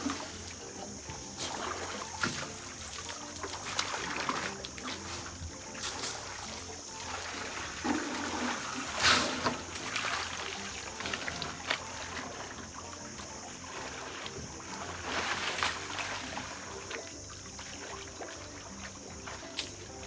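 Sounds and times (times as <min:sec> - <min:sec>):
water trickling and splashing: 0:00.0 - 0:20.0.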